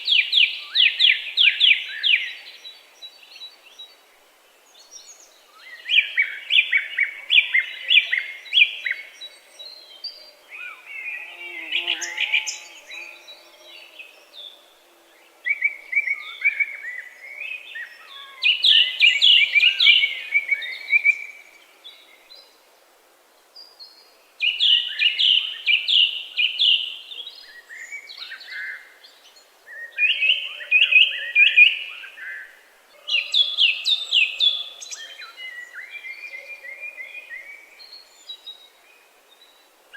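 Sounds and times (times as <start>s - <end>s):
songbird singing: 0.0s - 22.7s, 23.4s - 39.9s.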